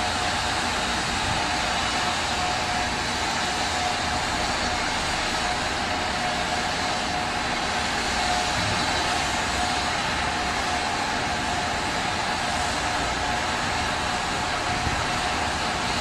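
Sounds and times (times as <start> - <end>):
steady rumble and rushing noise: 0.0 - 16.0.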